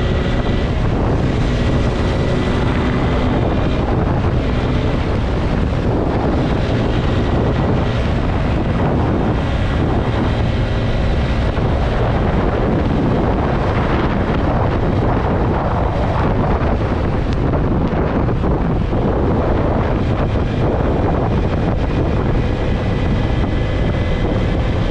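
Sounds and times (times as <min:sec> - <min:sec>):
motorcycle engine running: 0:00.0 - 0:24.9
wind buffeting microphone: 0:00.0 - 0:24.9.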